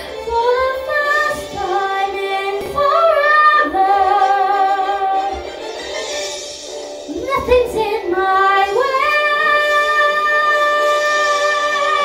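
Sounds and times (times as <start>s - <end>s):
girl singing into a microphone: 0.0s - 4.9s, 7.1s - 12.0s.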